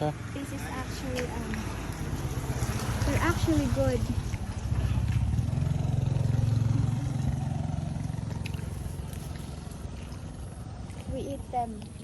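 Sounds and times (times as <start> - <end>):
vehicle engine passing: 0.0 - 11.8.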